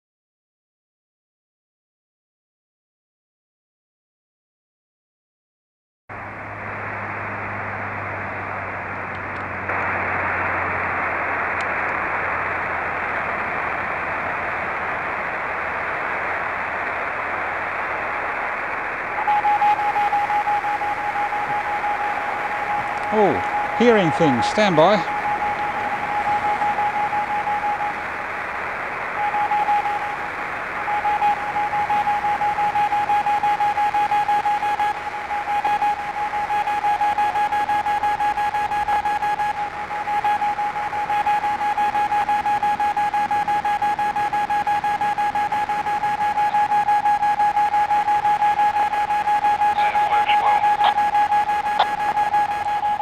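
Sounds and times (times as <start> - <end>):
receiver hiss: 6.2 - 53.0
steady radio tone: 9.6 - 53.0.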